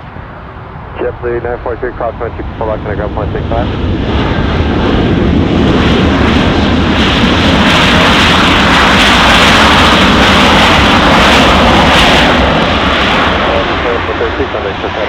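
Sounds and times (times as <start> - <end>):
jet airliner roar: 0.0 - 15.0.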